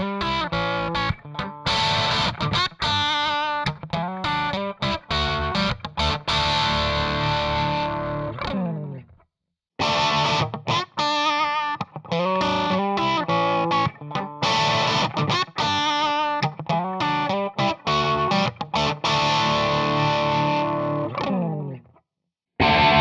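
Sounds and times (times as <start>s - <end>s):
distorted electric guitar riff: 0.0s - 9.0s, 9.8s - 21.8s, 22.6s - 23.0s.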